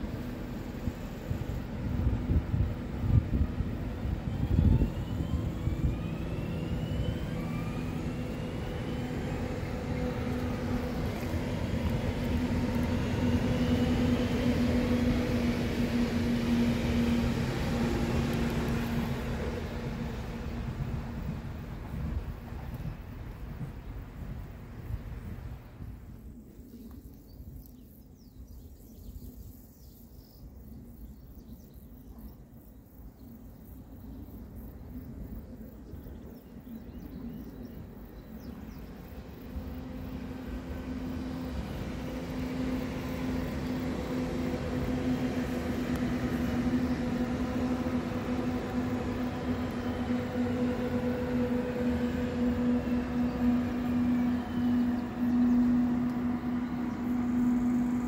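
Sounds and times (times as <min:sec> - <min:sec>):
train approaching: 0:00.0 - 0:26.9, 0:32.0 - 0:58.0.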